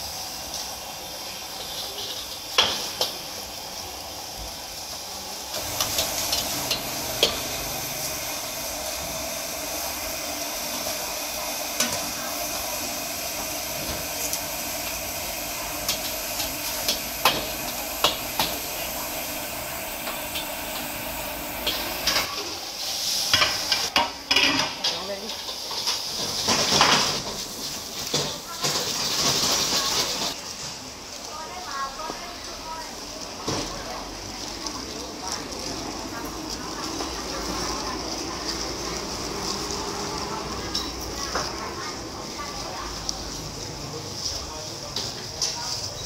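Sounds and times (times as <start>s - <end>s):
gas burner hiss: 0.0s - 46.0s
stir-fry sizzling: 0.0s - 46.0s.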